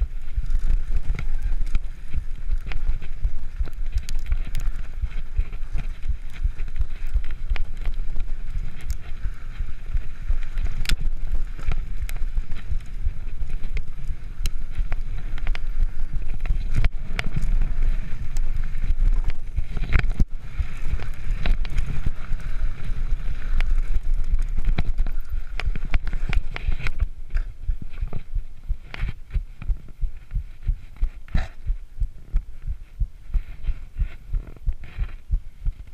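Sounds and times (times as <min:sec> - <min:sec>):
low pulsing: 0:00.0 - 0:35.9
mountain bike rumble and rattle: 0:00.0 - 0:35.9
wind buffeting microphone: 0:00.0 - 0:35.9.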